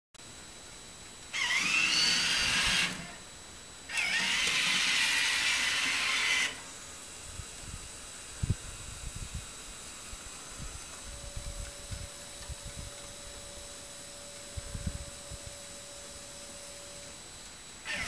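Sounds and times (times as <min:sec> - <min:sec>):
electric motor whirring: 0:01.3 - 0:03.2, 0:03.9 - 0:17.2.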